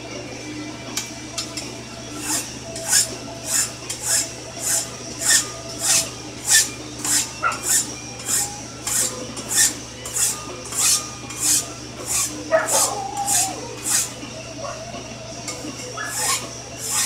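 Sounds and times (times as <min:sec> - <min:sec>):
hand file rasping on steel: 0:02.2 - 0:14.8, 0:15.5 - 0:17.0.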